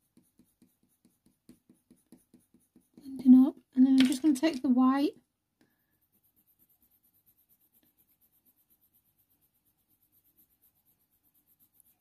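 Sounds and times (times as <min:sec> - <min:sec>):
pencil strokes on paper: 0:00.0 - 0:03.5, 0:05.6 - 0:12.0.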